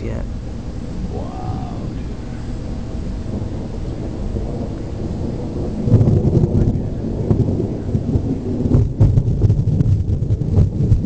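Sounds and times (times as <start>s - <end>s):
thunder crackles: 0.0s - 11.0s
thunder rumbling: 0.0s - 11.0s.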